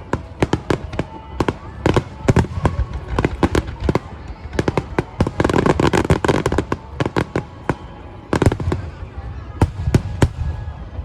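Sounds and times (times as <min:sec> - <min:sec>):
fireworks banging: 0:00.0 - 0:11.0
fireworks crackling: 0:00.0 - 0:11.0.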